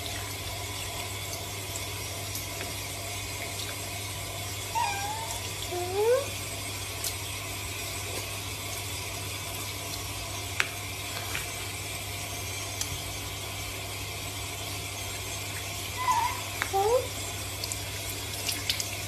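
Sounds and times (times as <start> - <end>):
tap water running: 0.0 - 19.0.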